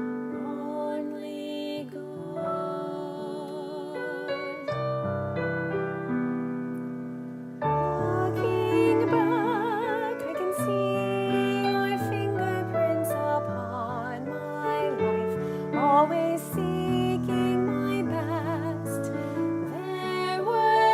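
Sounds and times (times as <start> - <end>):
slow hymn-style piano music: 0.0 - 20.9.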